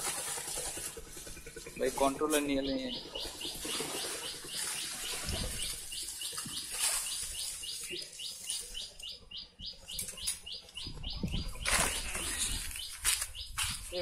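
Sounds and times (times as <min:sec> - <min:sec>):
dry leaves and twigs rustling: 0:00.0 - 0:09.2, 0:11.3 - 0:14.0
high repeated chirping: 0:01.8 - 0:14.0.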